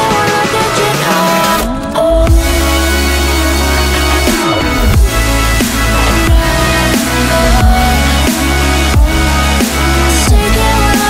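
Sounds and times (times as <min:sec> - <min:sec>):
background music: 0:00.0 - 0:11.0
rising sweep: 0:01.1 - 0:10.1.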